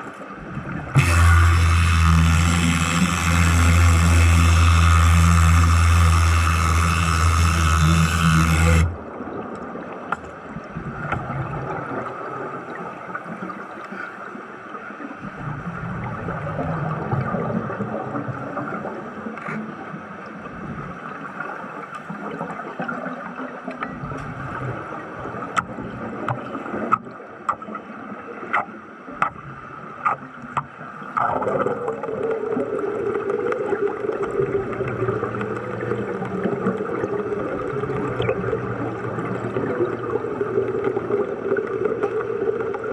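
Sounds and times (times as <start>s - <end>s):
underwater gurgling: 0.0s - 42.9s.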